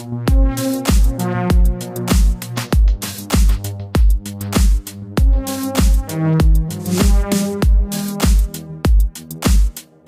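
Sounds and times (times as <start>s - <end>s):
electronic music: 0.0s - 10.0s
deep kick drum: 0.3s - 9.8s.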